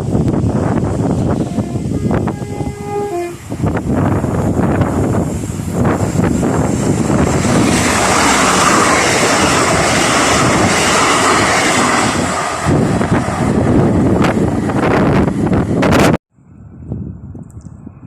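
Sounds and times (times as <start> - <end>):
train passing at speed: 0.0 - 16.2
wind buffeting microphone: 0.0 - 18.0.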